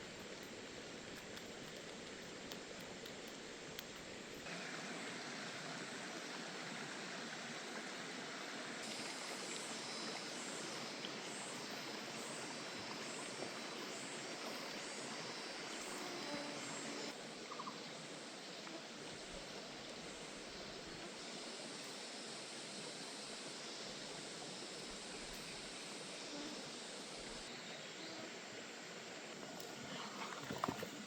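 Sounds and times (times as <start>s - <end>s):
forest stream rushing: 0.0s - 31.0s.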